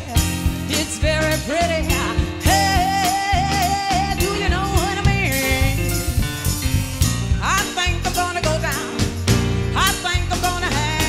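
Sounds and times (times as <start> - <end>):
recorded music with bass and drums: 0.0 - 11.0.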